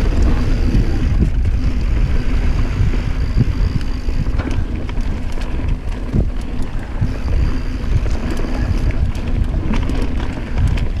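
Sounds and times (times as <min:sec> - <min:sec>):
bike ticks and rattles: 0:00.0 - 0:11.0
tyres rumbling over rough ground: 0:00.0 - 0:11.0
wind buffeting microphone: 0:00.0 - 0:11.0.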